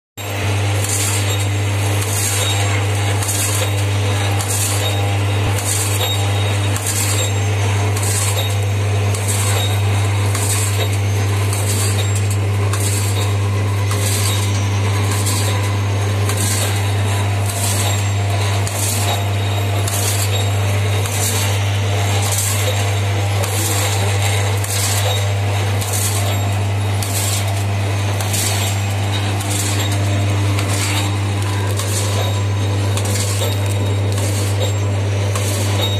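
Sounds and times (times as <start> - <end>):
machine low hum: 0.2 - 35.9.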